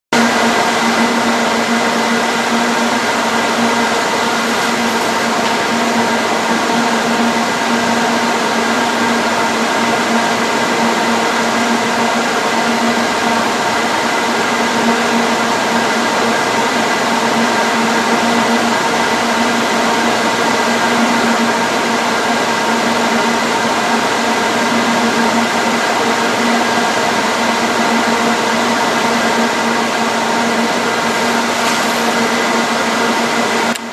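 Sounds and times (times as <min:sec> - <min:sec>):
equipment whir and hum: 0:00.2 - 0:33.9.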